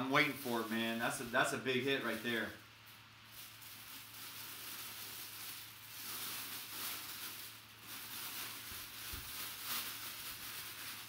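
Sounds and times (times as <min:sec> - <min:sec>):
plastic bag rustling and crinkling: 0:00.0 - 0:11.0.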